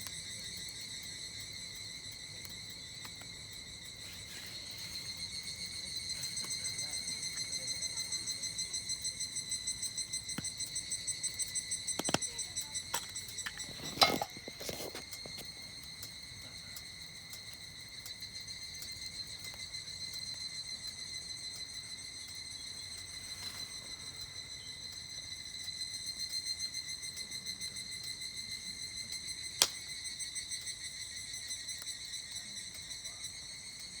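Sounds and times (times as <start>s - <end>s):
campfire pops and crackles: 0.0s - 34.0s
cicada chorus: 0.0s - 34.0s.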